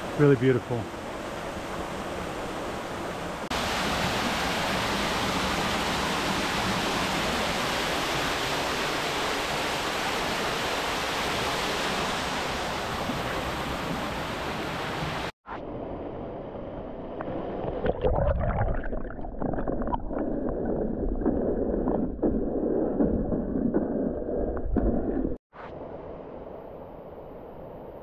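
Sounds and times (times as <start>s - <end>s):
water rushing in creek: 0.0s - 15.4s, 17.2s - 25.0s.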